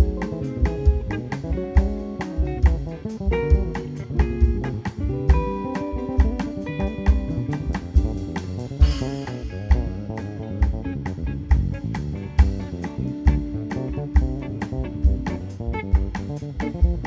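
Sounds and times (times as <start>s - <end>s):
live instrumental band music: 0.0s - 17.0s.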